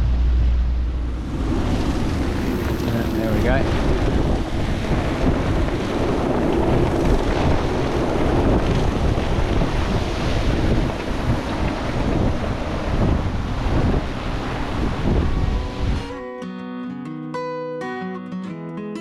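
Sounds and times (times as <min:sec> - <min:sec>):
water rushing: 0:00.0 - 0:16.1
wind buffeting microphone: 0:00.0 - 0:16.1.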